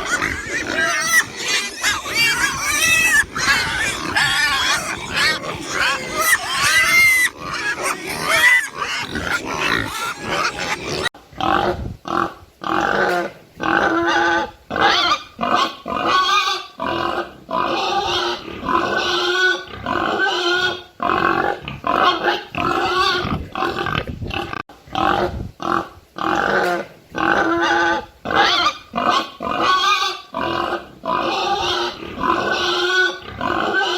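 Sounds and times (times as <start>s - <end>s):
pig grunting and oinking: 0.0s - 33.9s.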